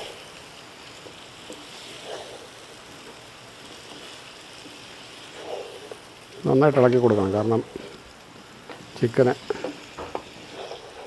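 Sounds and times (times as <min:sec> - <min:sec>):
chicken sizzling in a pan: 0:00.0 - 0:11.0
soft stirring: 0:00.0 - 0:11.0.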